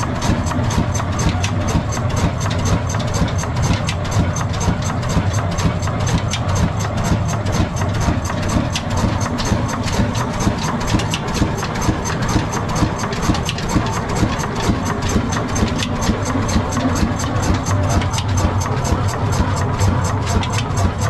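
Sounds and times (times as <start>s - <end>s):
low engine hum: 0.0s - 21.0s
stationary diesel engine clicking: 0.0s - 21.0s.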